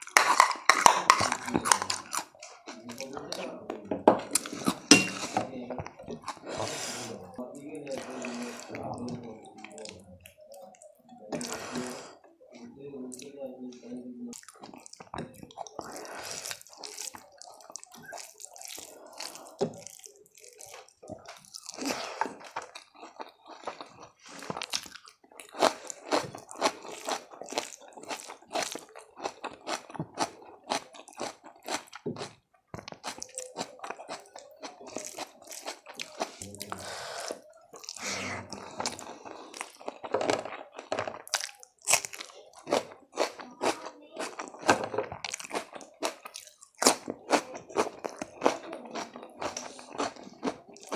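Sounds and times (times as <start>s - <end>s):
crunchy chewing: 0.0s - 3.5s, 13.2s - 50.9s.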